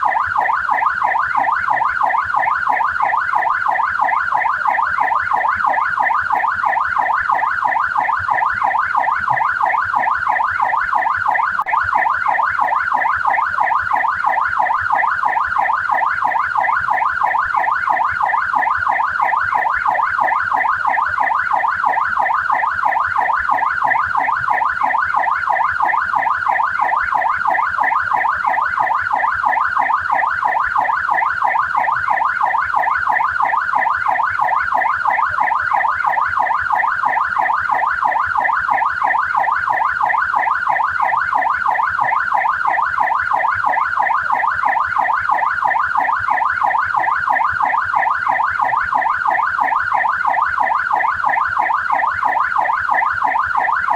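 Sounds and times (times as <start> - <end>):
police siren yelp: 0.0 - 53.9.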